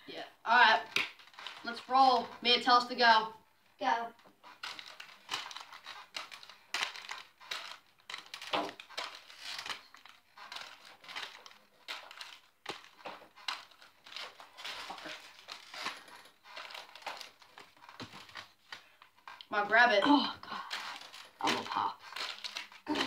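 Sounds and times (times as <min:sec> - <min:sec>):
wrapping paper tearing and crinkling: 0:00.5 - 0:03.0, 0:04.3 - 0:23.0.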